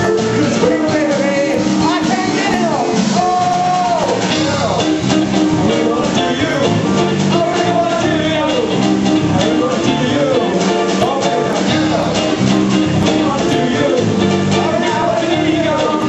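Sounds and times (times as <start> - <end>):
lead guitar bending notes: 0.0 - 16.0
live rock band playing: 0.0 - 16.0.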